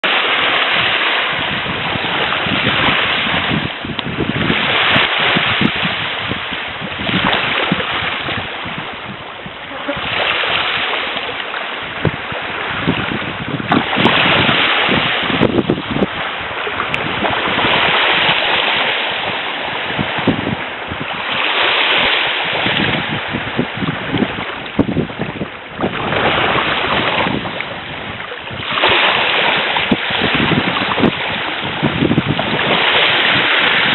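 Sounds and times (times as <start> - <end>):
waves washing onto shore: 0.0 - 33.9
wind buffeting microphone: 0.0 - 33.9.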